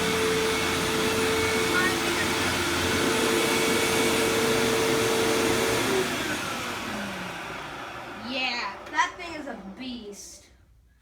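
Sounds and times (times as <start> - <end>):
vacuum cleaner motor hum: 0.0 - 9.8.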